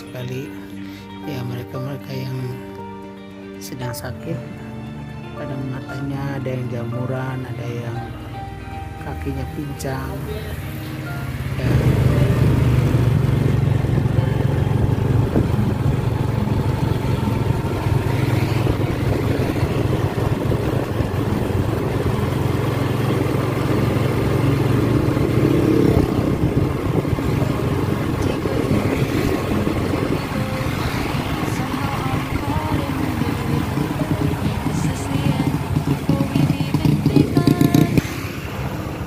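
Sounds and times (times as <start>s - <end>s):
road and wind rush: 7.4s - 39.0s
motorcycle engine hum: 7.6s - 39.0s.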